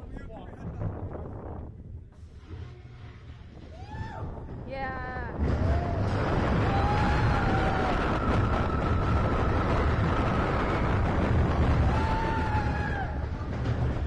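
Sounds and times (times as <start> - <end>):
roller coaster wheels rumbling on track: 0.0 - 14.0
wind on microphone: 0.0 - 14.0.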